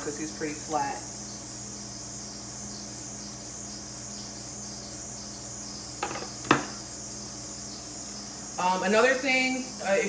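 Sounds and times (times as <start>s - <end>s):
dough sizzling in hot oil: 0.0s - 10.0s.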